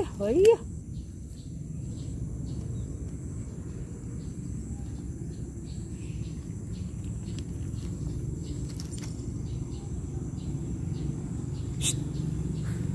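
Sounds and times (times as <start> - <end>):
high insect drone: 0.0 - 12.9.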